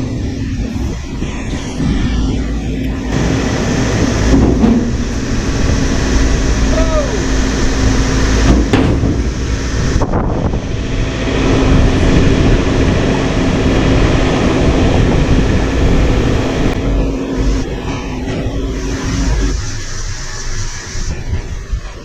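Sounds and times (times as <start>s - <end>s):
heavy equipment diesel engine: 0.0s - 22.0s.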